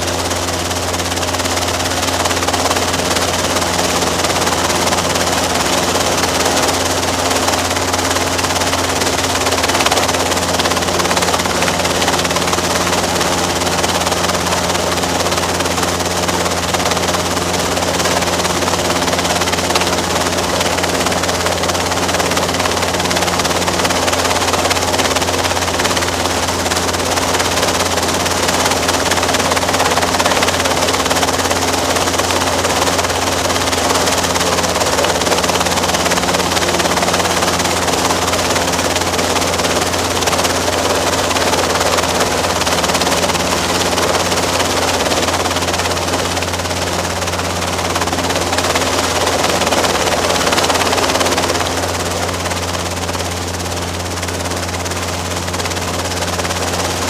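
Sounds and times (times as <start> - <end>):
helicopter engine and rotors drone: 0.0 - 57.0.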